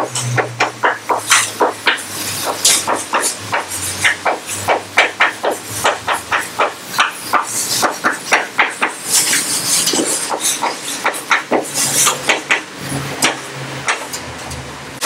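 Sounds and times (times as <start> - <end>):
chalk tapping on blackboard: 0.0 - 14.0
chalk scraping: 0.2 - 13.1.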